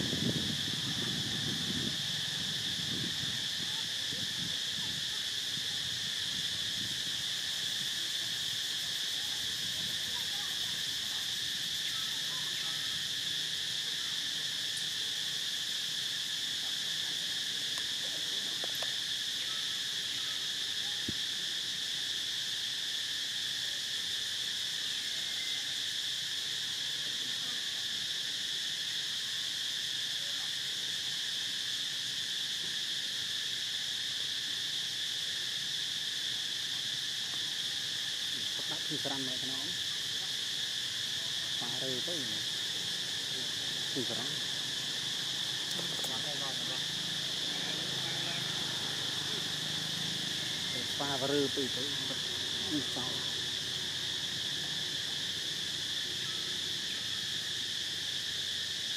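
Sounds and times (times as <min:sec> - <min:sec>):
insect chorus shrilling: 0:00.0 - 0:58.9.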